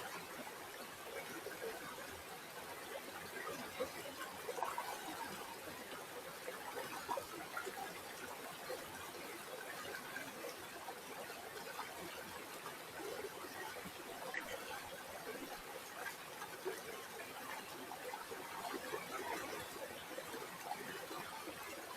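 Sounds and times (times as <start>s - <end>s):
river water babbling: 0.0s - 21.9s.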